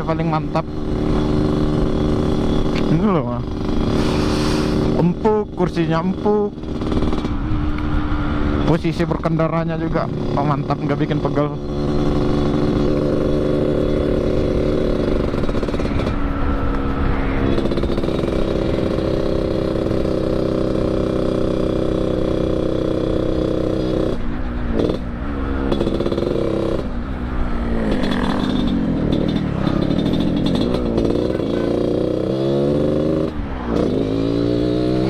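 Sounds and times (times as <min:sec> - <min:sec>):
motorcycle engine growl: 0:00.0 - 0:35.0.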